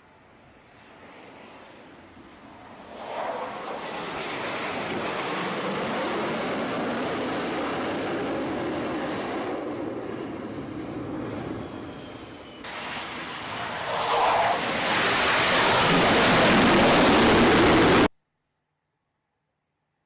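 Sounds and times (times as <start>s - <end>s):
aircraft engine high whine: 0.0s - 18.1s
aircraft engine roar: 0.0s - 18.1s.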